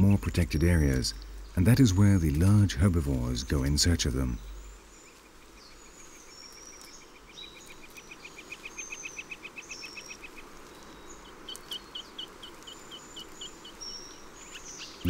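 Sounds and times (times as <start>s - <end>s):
faint steady hiss: 0.0s - 15.0s
slower series of bird notes: 0.0s - 15.0s.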